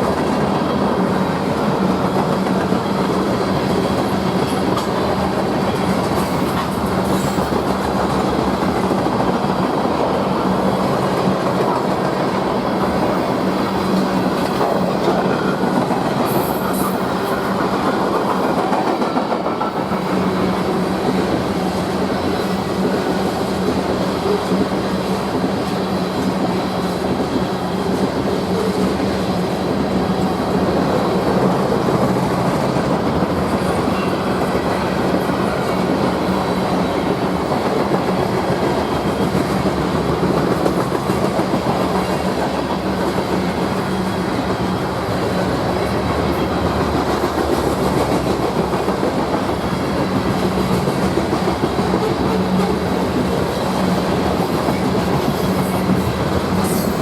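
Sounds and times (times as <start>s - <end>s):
train wheels clattering: 0.0s - 57.0s.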